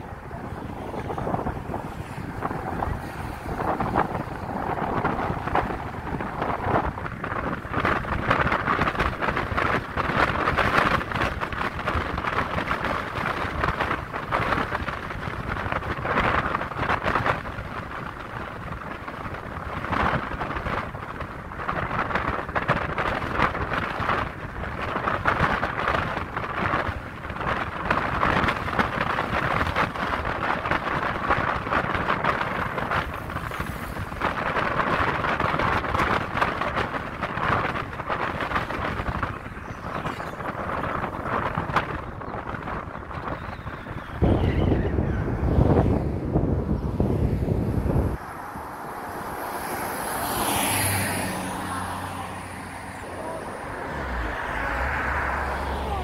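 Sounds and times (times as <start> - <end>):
road noise: 0.0 - 56.0
wind rushing past moving car: 0.0 - 56.0.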